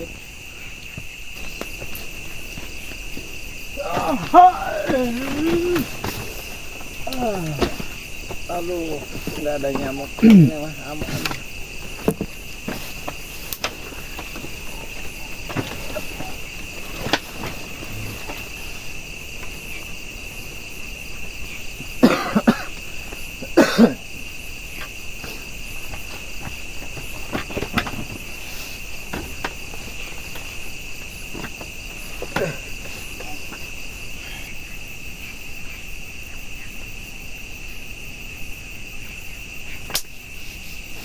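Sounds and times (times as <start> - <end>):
crickets and insects trilling: 0.0 - 41.0.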